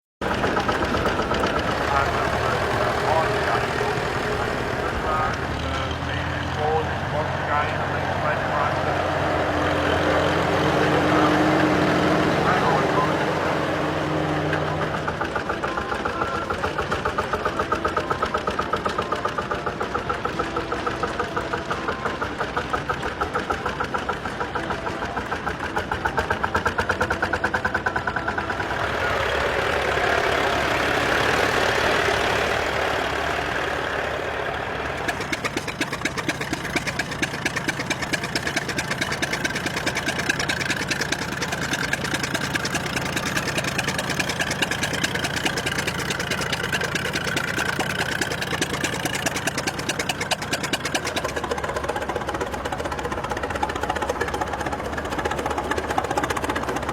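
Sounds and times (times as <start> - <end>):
tractor engine running: 0.2 - 56.9.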